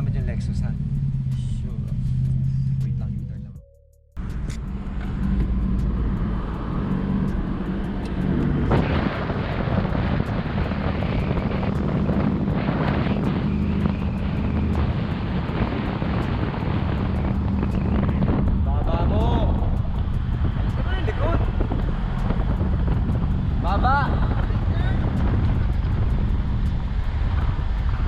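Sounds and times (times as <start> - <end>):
car engine running: 0.0 - 3.6, 4.2 - 28.0
wind and road noise: 0.0 - 3.6, 4.2 - 28.0.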